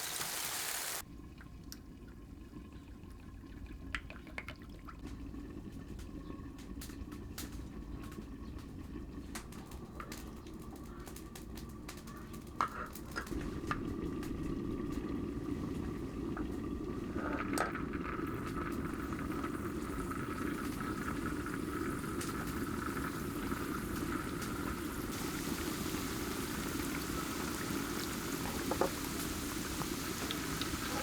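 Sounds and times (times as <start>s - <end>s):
liquid boiling: 0.0s - 31.0s.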